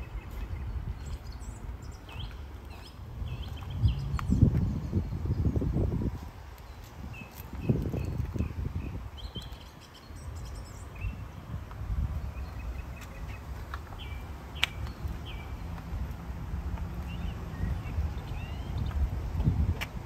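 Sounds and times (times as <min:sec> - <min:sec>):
birds chirping: 0:00.0 - 0:05.7, 0:06.5 - 0:15.9, 0:16.9 - 0:19.4.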